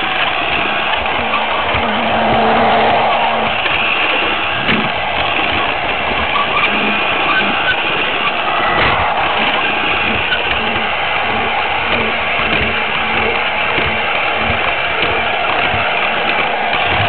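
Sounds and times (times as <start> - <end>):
toy train motor whirring: 0.0 - 17.0
wheels rattling on plastic track: 0.0 - 17.0.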